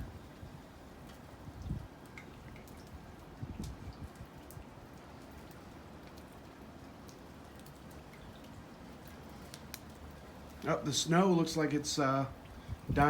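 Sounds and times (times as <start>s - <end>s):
ticks and drips of meltwater: 0.0s - 13.0s
wet snow falling with soft hiss: 0.0s - 13.0s.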